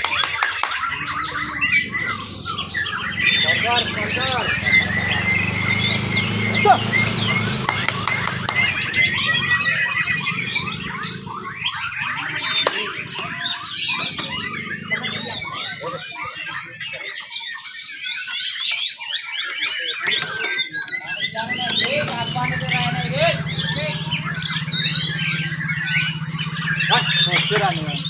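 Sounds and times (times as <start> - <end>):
birds singing whistles and trills: 0.0 - 28.0.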